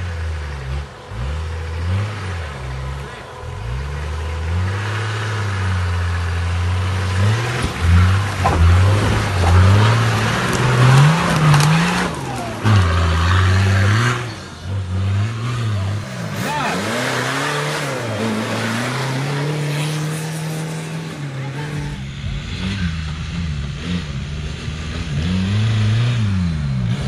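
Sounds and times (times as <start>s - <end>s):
off-road engine revving: 0.0s - 27.0s.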